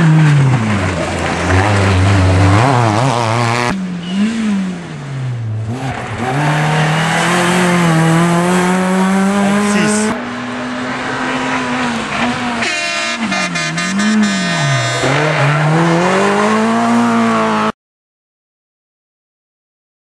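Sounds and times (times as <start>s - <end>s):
rally car engine revving: 0.0s - 17.7s.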